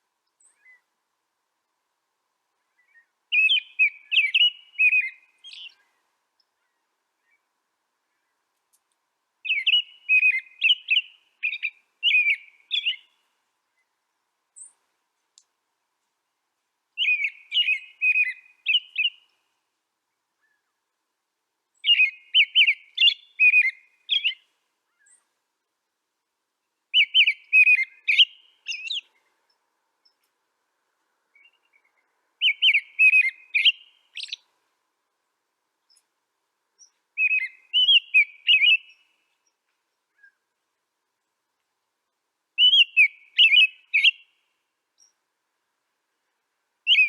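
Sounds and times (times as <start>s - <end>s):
songbird singing: 0.0s - 25.6s, 26.4s - 47.0s.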